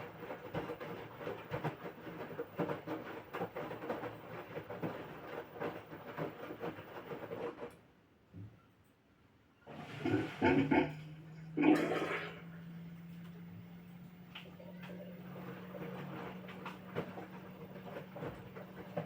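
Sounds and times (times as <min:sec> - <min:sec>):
washing machine drum churning: 0:00.0 - 0:07.7, 0:09.6 - 0:19.0.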